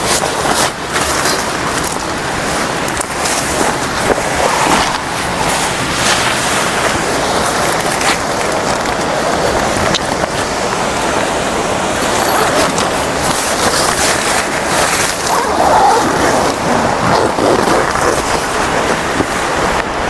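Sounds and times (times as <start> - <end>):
waterfall and stream rushing: 0.0 - 20.0.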